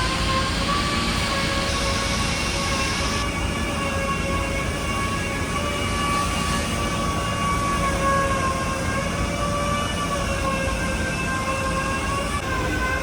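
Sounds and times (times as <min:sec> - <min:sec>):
machine motor whining: 0:00.0 - 0:13.0.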